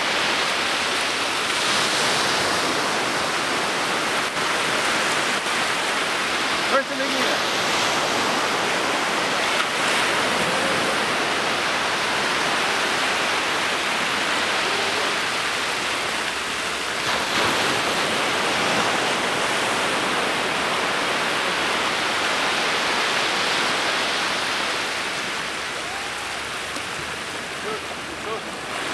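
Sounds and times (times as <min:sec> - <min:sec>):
surf washing along shoreline: 0:00.0 - 0:28.9.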